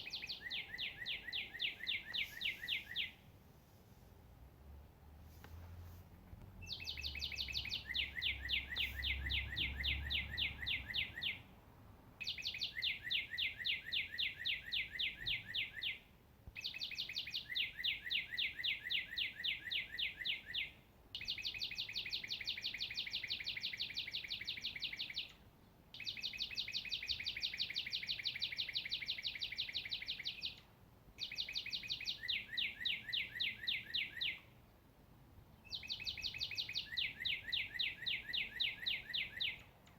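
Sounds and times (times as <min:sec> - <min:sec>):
songbird trilling: 0:00.0 - 0:03.2, 0:06.6 - 0:11.4, 0:12.2 - 0:16.0, 0:16.6 - 0:25.3, 0:26.0 - 0:34.5, 0:35.6 - 0:39.7.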